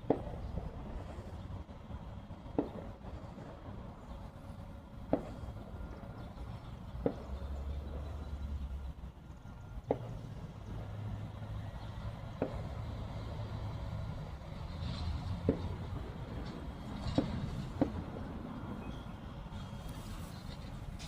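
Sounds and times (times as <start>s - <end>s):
distant firework bangs: 0.0s - 8.8s, 9.7s - 18.6s.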